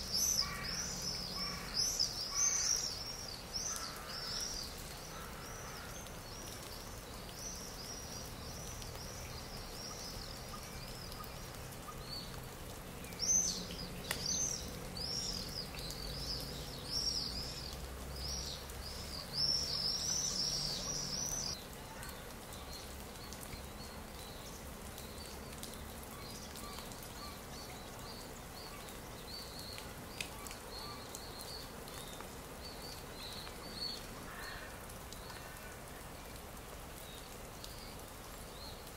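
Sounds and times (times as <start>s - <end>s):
outdoor background noise: 0.0s - 38.9s
songbirds chirping: 0.0s - 38.9s.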